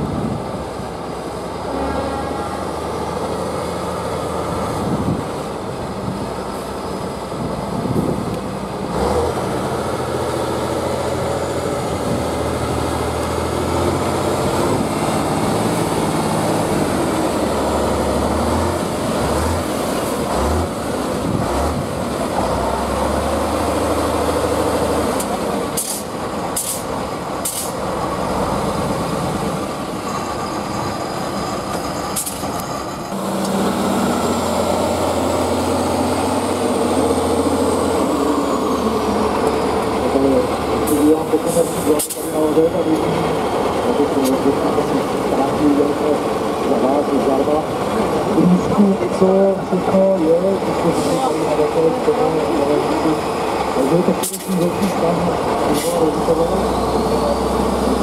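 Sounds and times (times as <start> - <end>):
heavy diesel truck engine: 0.0 - 58.0.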